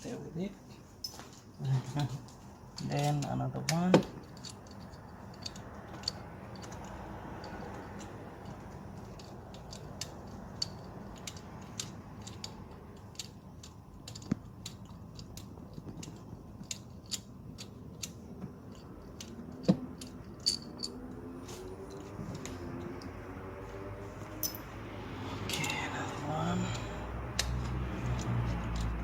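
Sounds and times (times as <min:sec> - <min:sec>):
hand tool clicking and rattling: 0:01.0 - 0:23.2, 0:24.4 - 0:24.7, 0:25.4 - 0:29.0.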